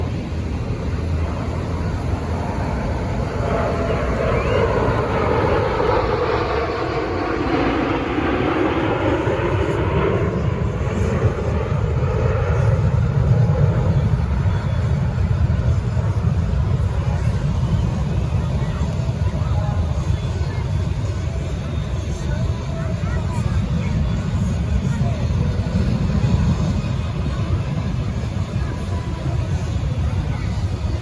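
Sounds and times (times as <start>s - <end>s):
airplane engine flying past: 0.0s - 31.0s
steady low rumble: 0.0s - 31.0s.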